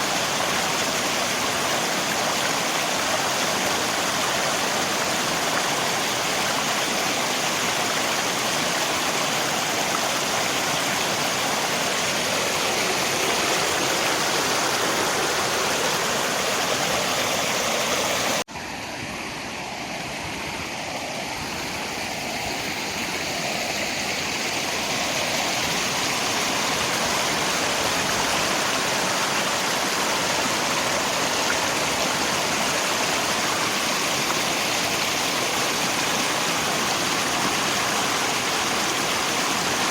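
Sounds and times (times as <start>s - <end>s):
rain: 0.0s - 18.5s, 19.8s - 39.9s
rushing river water: 0.0s - 39.9s.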